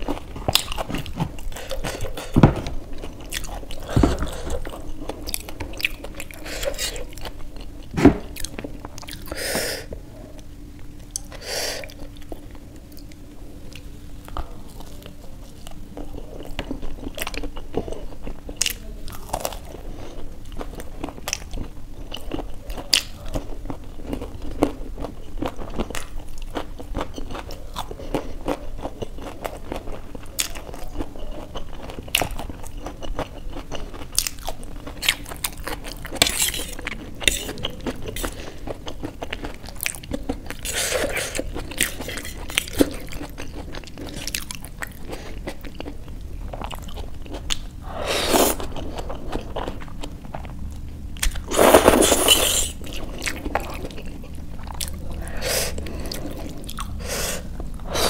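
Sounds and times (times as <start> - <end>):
crunchy chewing: 0.0 - 9.4, 10.3 - 58.0.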